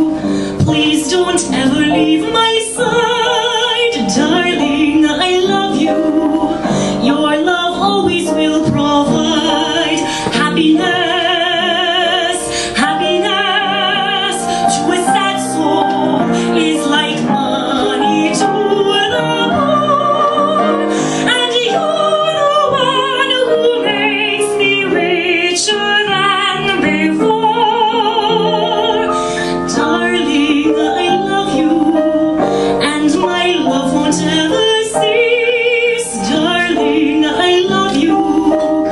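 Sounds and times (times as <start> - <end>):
piano accompaniment: 0.0 - 38.9
woman singing with vibrato: 0.0 - 38.9.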